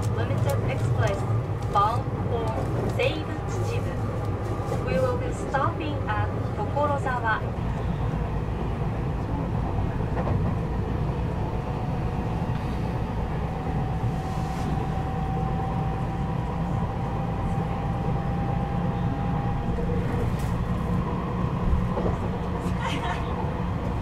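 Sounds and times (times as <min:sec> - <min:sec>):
train cabin low rumble: 0:00.0 - 0:24.0.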